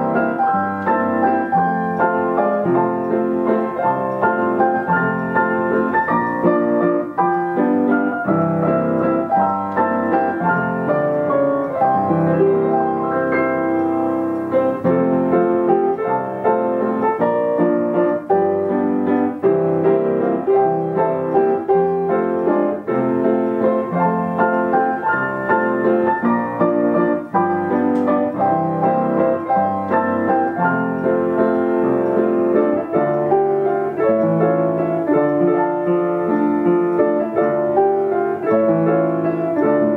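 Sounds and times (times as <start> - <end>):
player piano playing tune: 0.0 - 39.9.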